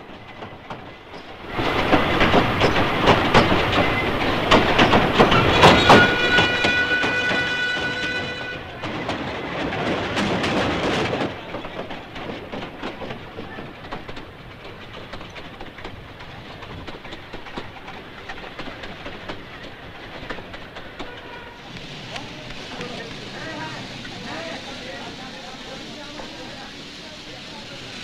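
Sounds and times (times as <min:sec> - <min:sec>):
wheels clicking over rails: 0:00.0 - 0:26.5
train rushing rattle: 0:00.0 - 0:28.0.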